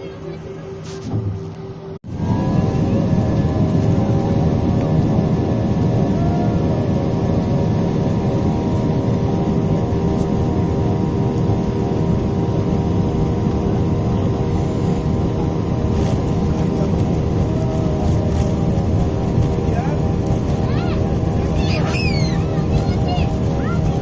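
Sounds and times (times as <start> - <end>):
airliner engines rumbling in cabin: 0.0 - 24.0.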